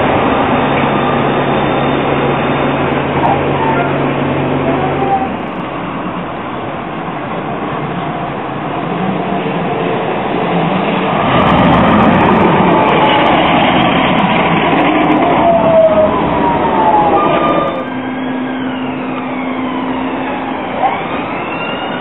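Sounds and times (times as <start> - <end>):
steel wheels rumbling on rail: 0.0 - 20.9
tram drive whine: 0.0 - 22.0
tram electric hum: 0.0 - 22.0.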